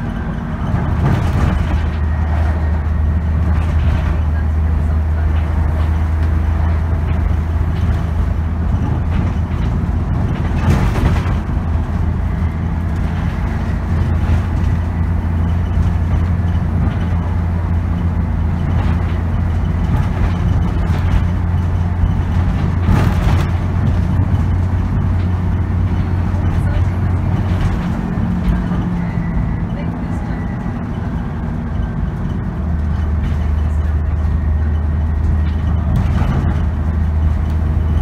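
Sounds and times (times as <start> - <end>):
bus engine deep drone: 0.0 - 38.0.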